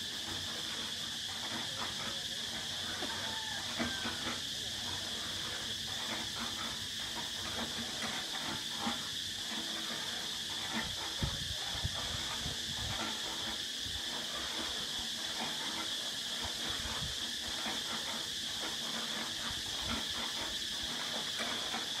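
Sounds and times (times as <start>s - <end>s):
high-pitched hiss: 0.0s - 22.0s.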